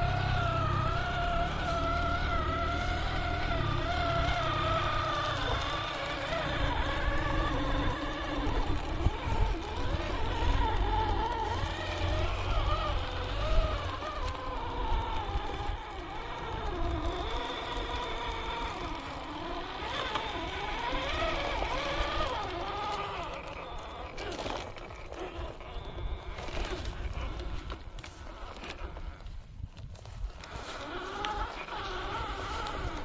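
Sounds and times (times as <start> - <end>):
electric motor whining: 0.0 - 33.0
tyres crunching over rough ground: 0.0 - 33.0.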